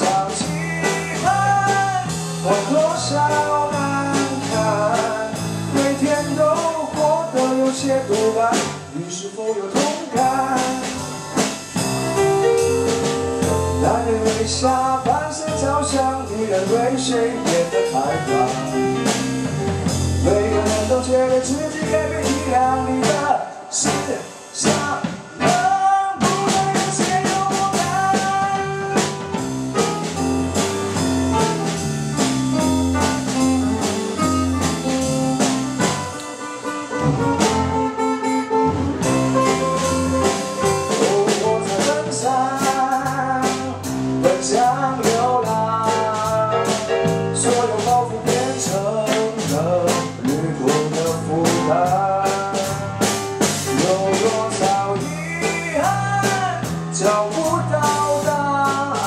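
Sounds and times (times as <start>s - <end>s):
band playing pop music: 0.0s - 59.0s.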